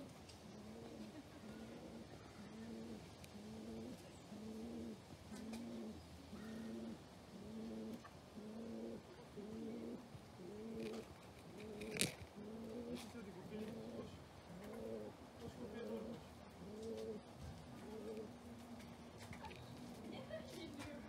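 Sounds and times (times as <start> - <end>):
pigeon cooing: 0.0 - 18.8.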